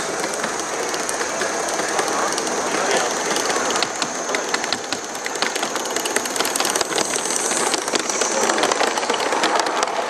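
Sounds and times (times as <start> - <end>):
model train wheels clattering: 0.0 - 10.0
steady high hiss: 0.0 - 10.0.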